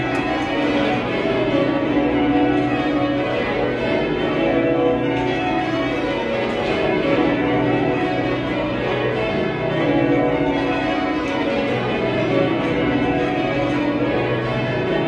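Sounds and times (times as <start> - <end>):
church bells change ringing: 0.0 - 15.0.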